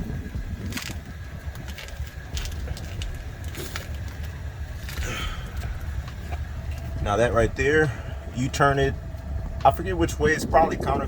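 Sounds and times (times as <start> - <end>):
car engine idling: 0.0 - 11.0
faint whine: 0.0 - 11.0.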